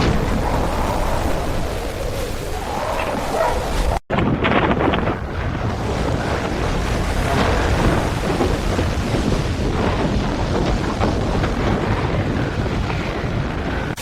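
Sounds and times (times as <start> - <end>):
deep rumble on microphone: 0.0 - 14.0
rain: 0.0 - 14.0
wind rushing: 0.0 - 14.0.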